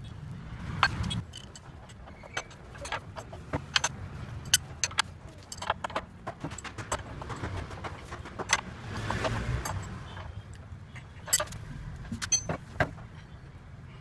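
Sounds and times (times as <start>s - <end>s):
sharp clicks and clinks: 0.8s - 12.6s.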